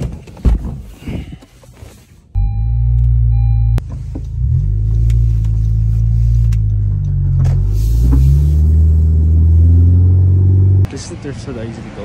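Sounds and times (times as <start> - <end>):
car engine rumble inside cabin: 0.0 - 10.9
road noise: 0.0 - 12.0.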